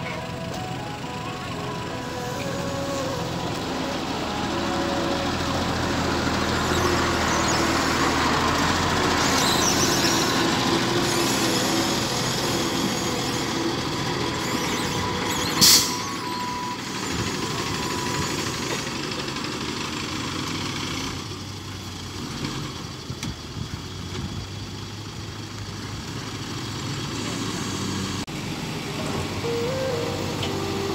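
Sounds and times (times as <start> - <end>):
diesel truck engine droning: 0.0 - 30.9.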